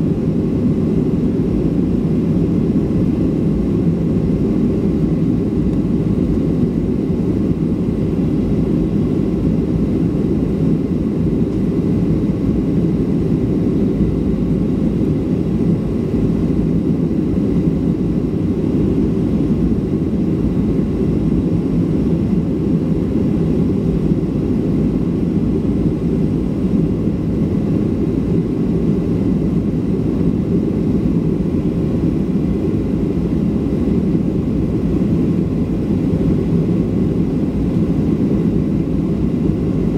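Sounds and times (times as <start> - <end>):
airflow rushing in aircraft cabin: 0.0 - 39.9
faint steady whines: 0.0 - 39.9
jet engines at climb power: 0.0 - 39.9.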